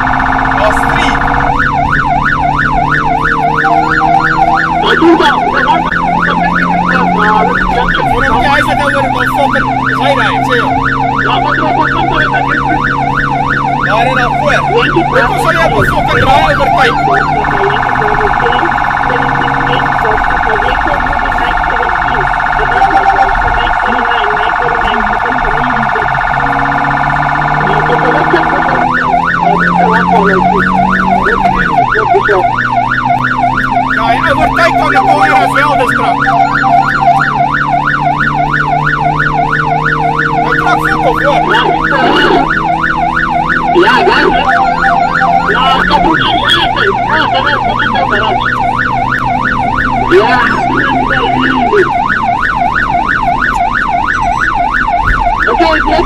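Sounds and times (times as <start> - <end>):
car engine droning: 0.0 - 56.0
emergency siren warbling and yelping: 0.0 - 56.0.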